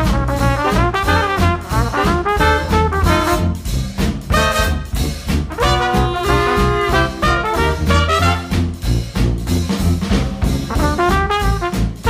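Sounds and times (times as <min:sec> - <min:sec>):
swing music with brass: 0:00.0 - 0:12.0.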